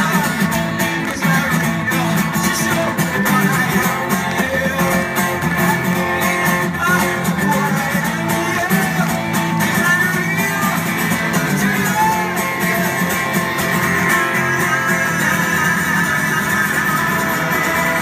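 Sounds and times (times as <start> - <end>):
acoustic guitar: 0.0 - 18.0
person singing: 0.0 - 18.0.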